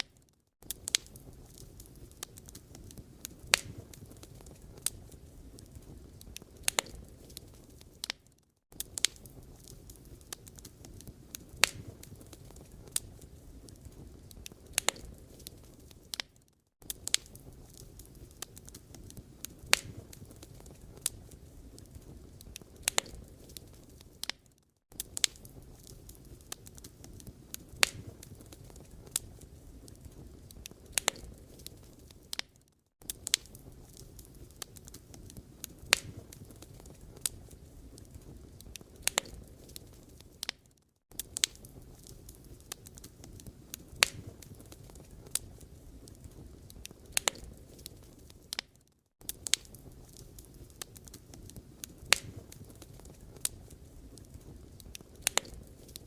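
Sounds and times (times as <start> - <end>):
wood fire crackling and popping: 0.0 - 56.0
low fire rumble: 0.6 - 56.0.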